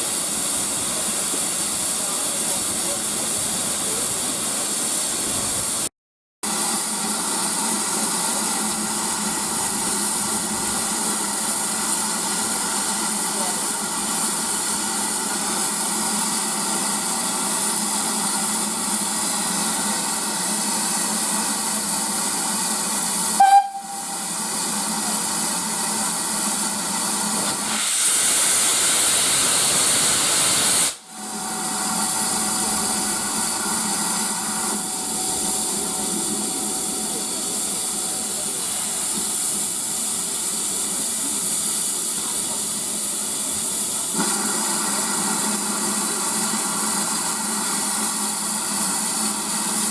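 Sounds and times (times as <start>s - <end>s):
rush of steam: 0.0s - 5.9s, 6.5s - 49.9s
steam locomotive hissing: 0.0s - 5.9s, 6.5s - 49.9s.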